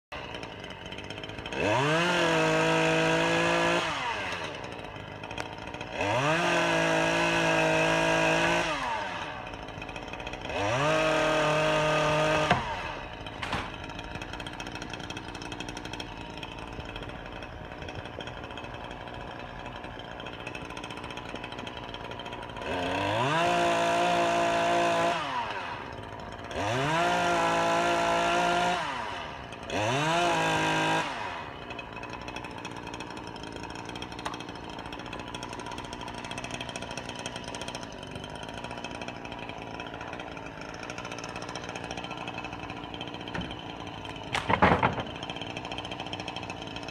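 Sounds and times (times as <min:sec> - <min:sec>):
chainsaw revving and idling: 0:00.1 - 0:46.9.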